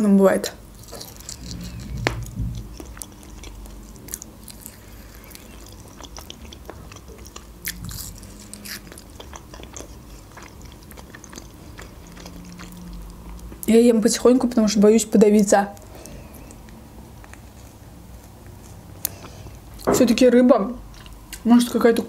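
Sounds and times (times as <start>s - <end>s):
close chewing: 0.7s - 13.7s, 15.8s - 19.9s, 20.8s - 21.5s.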